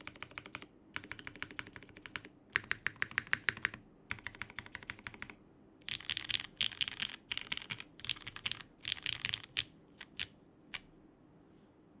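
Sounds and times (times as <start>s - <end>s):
mechanical keyboard typing: 0.0s - 10.9s.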